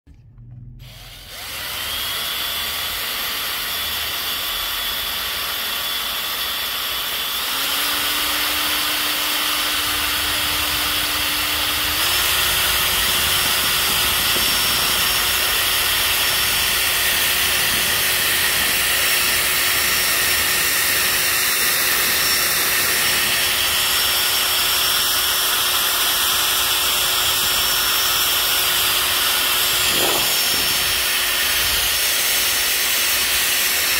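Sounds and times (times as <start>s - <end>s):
power drill motor running: 0.8s - 33.9s.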